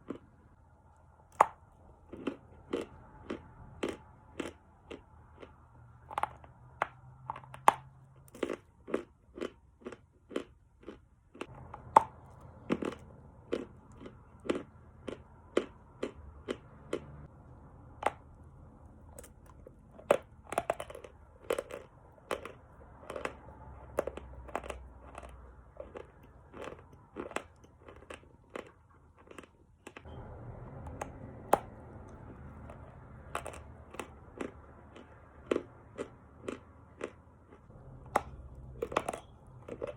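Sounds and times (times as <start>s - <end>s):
chalk being chewed crunching: 1.4s - 17.2s, 19.1s - 30.1s, 30.8s - 39.9s.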